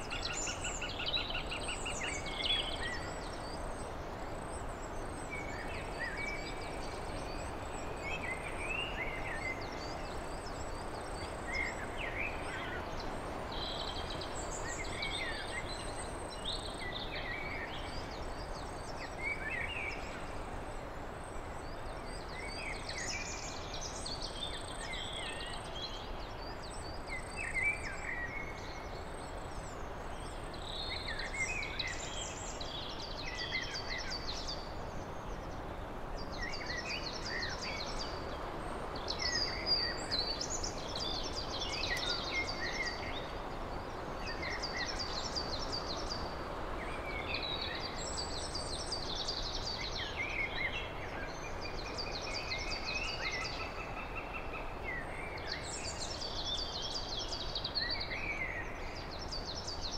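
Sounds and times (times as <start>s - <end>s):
background hiss: 0.0s - 59.9s
songbirds singing: 0.0s - 59.9s.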